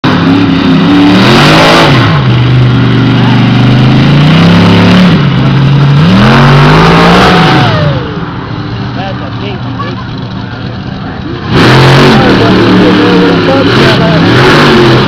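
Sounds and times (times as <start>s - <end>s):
truck engine revving loudly: 0.0s - 15.0s.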